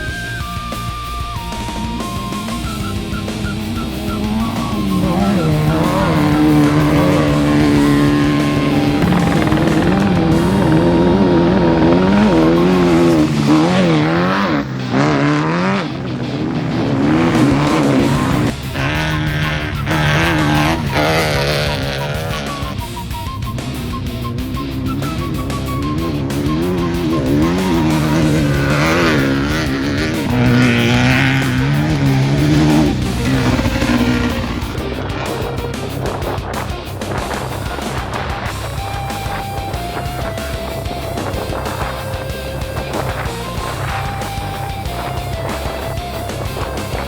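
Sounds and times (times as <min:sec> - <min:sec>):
engine revving hard: 0:00.0 - 0:47.0
faint music: 0:00.0 - 0:47.0.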